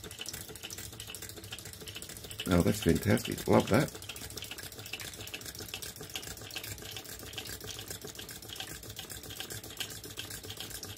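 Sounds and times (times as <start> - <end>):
mechanism ticking: 0.0 - 10.9
water trickling and splashing: 0.0 - 10.9.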